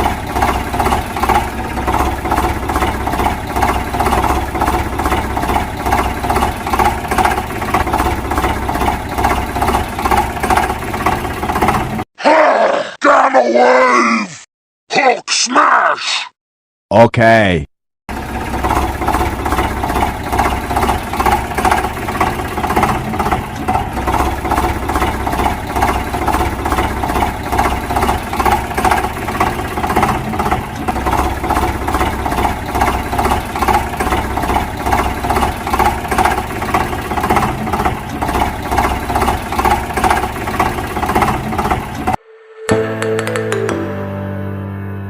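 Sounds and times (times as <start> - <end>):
engine idling with even pulse: 0.0 - 12.0, 18.1 - 42.2.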